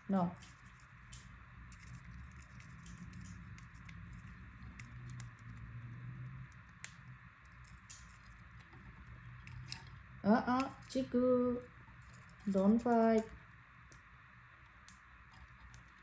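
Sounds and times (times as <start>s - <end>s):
faint low hum: 0.0s - 16.0s
bird beaks and claws clicking: 0.3s - 10.0s, 11.8s - 16.0s.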